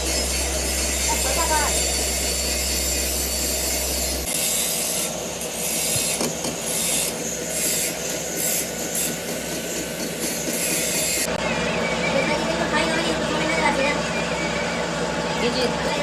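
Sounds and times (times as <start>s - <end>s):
metal grinding machine: 0.0s - 16.0s.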